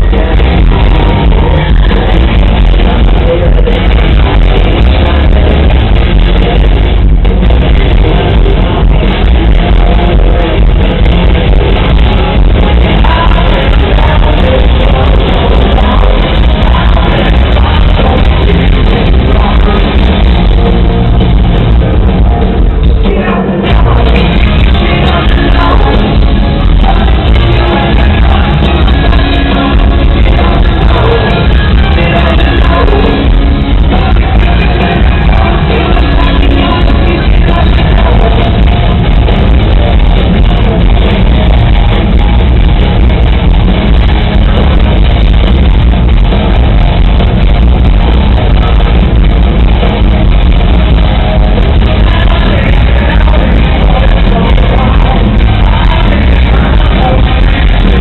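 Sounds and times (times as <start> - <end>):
person singing: 0.0 - 45.5, 46.7 - 58.0
hard rock band playing live: 0.0 - 58.0.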